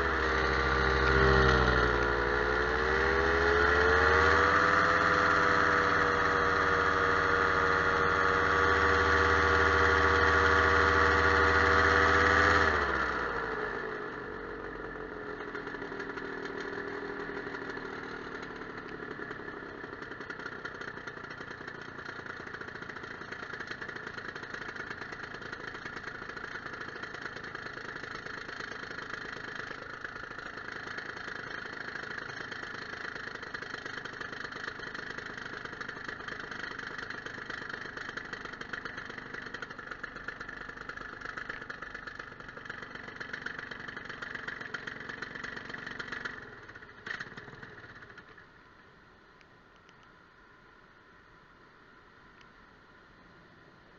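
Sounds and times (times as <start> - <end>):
propeller aircraft engine: 0.0 - 48.9.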